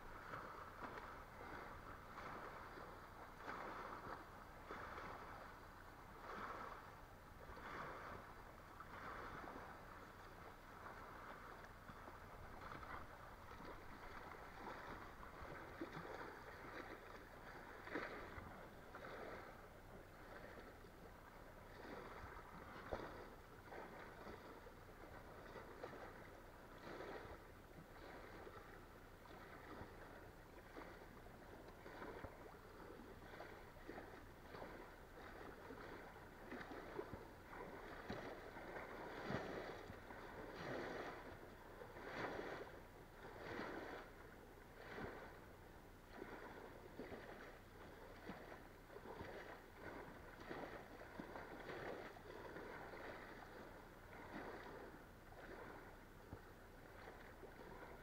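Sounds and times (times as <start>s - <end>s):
small waves lapping on stone: 0.0s - 58.0s.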